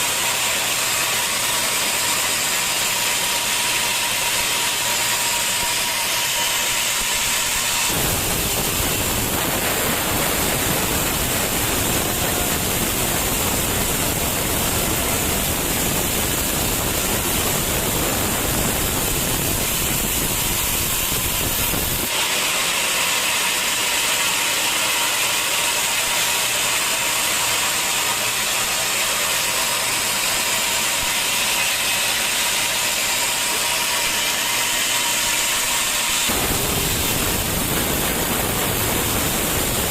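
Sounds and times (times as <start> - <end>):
saw blade hissing and whining: 0.0 - 39.9
saw cutting through wood: 0.0 - 39.9.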